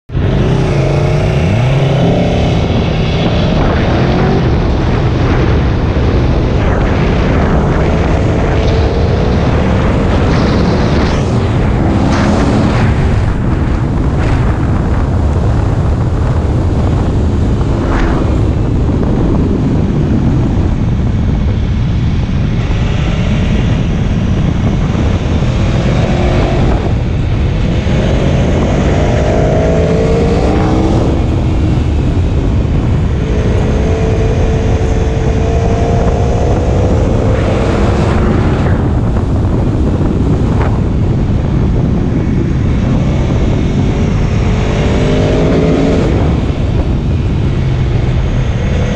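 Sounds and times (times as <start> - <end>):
motorcycle engine accelerating: 0.1 - 48.9
wind buffeting microphone: 0.1 - 48.9.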